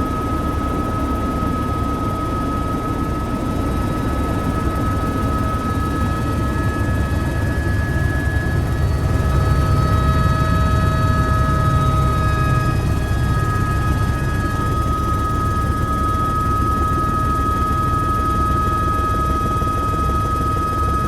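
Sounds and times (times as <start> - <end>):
high turbine whine: 0.0 - 21.0
helicopter rotor beating: 0.1 - 21.0.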